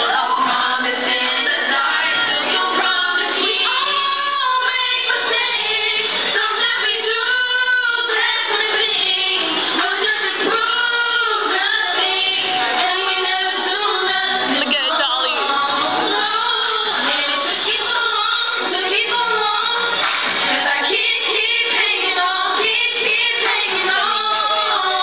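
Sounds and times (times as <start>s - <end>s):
girls singing into microphones: 0.0s - 25.0s.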